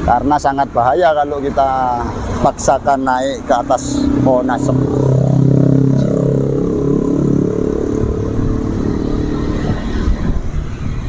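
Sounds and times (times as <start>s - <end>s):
low traffic rumble: 0.0s - 11.0s
vehicle passing by: 0.0s - 11.0s.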